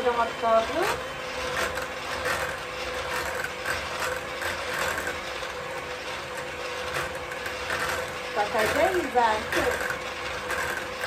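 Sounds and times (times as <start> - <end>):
electric mixer motor hum: 0.0 - 11.0.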